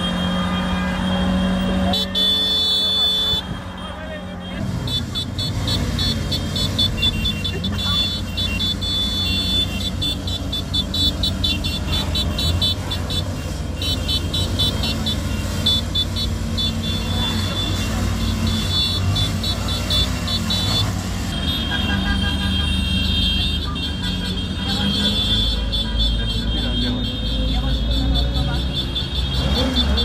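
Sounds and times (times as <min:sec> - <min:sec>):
motorcycle engines rumbling: 0:00.0 - 0:30.0.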